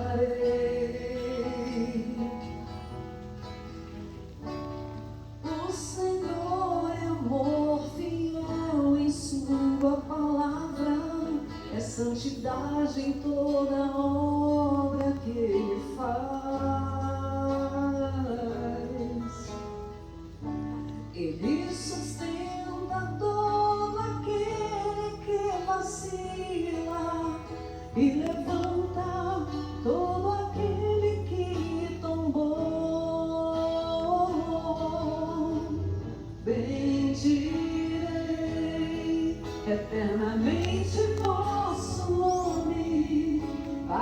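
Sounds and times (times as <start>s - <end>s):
person singing long gliding notes: 0.0s - 3.0s, 5.4s - 20.0s, 21.0s - 44.0s.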